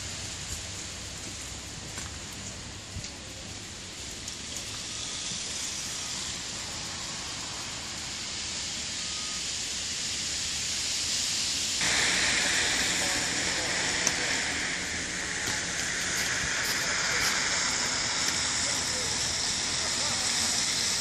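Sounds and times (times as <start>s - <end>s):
light rain hissing: 0.0s - 21.0s.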